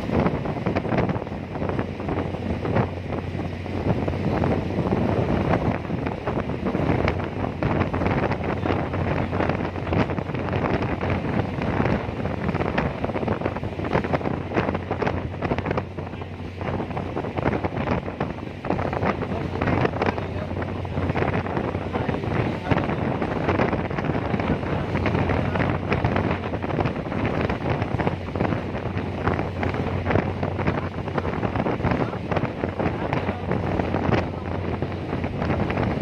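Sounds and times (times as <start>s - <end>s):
ferry engine low drone: 0.0s - 36.0s
wind buffeting microphone: 0.0s - 36.0s.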